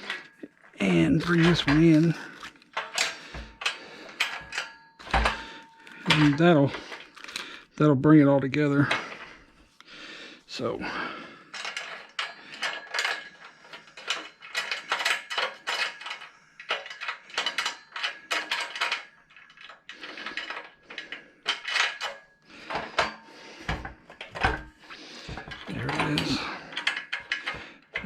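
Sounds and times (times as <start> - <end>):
small metal parts clinking: 0.0 - 7.7, 11.4 - 28.0.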